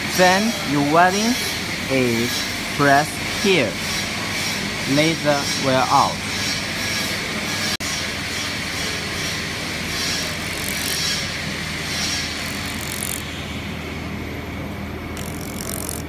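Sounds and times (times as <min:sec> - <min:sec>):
hissy welding bursts: 0:00.0 - 0:13.4, 0:15.2 - 0:16.0
welding machine running: 0:00.0 - 0:16.0.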